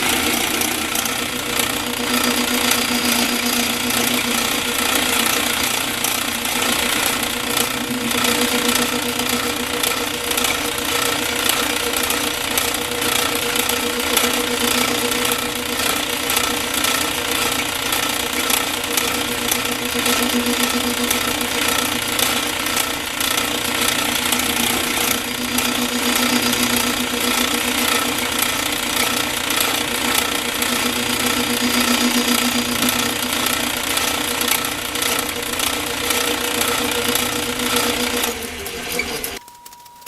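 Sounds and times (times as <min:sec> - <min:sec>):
rattling cutting noise: 0:00.0 - 0:39.8
machine tool humming: 0:00.0 - 0:40.0.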